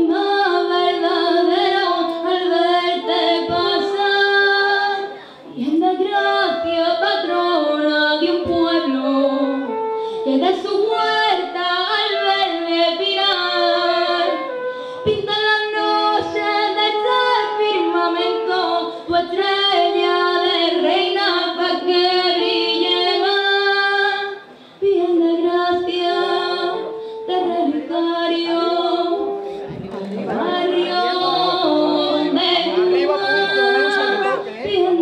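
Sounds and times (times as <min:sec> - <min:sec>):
women singing in harmony: 0:00.0 - 0:09.7, 0:10.3 - 0:14.6, 0:15.2 - 0:35.0.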